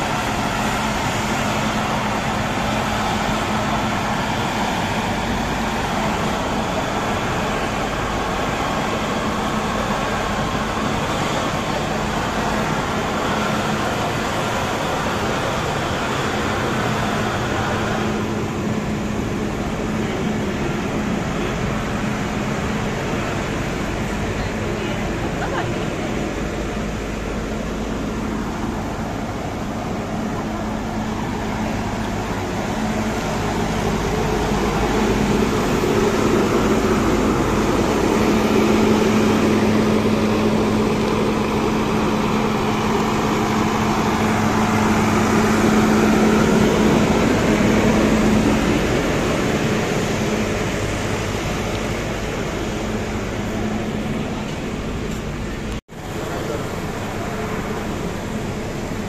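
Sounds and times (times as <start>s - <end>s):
train mechanical hum: 0.0s - 59.0s.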